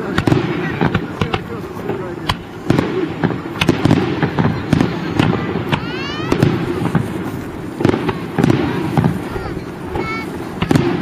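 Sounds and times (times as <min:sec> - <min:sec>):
crowd murmuring: 0:00.0 - 0:11.0
firework shells bursting: 0:00.0 - 0:11.0.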